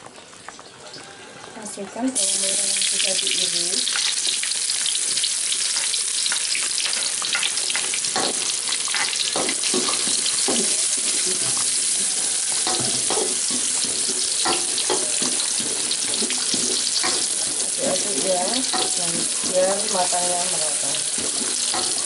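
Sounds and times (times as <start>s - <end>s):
shallots sizzling in oil: 0.1s - 22.0s.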